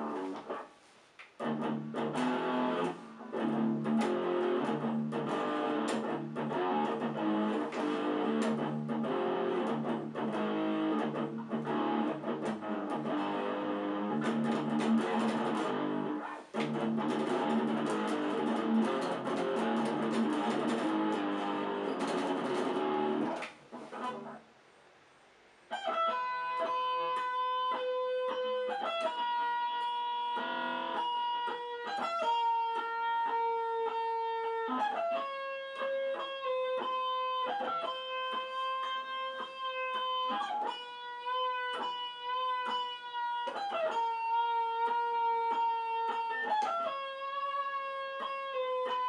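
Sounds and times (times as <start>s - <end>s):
electric guitar playing chords: 0.0s - 0.6s, 1.4s - 24.4s, 25.7s - 49.0s.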